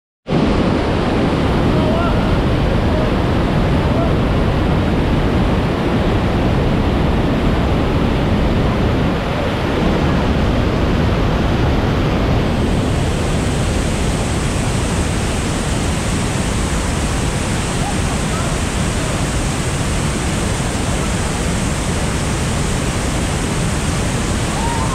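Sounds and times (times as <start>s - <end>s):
waterfall rushing onto boulders: 0.3s - 24.9s.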